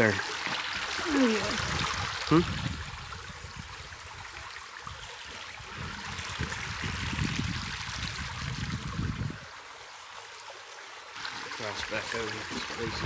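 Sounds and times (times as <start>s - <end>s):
creek trickling over rocks: 0.0s - 13.0s.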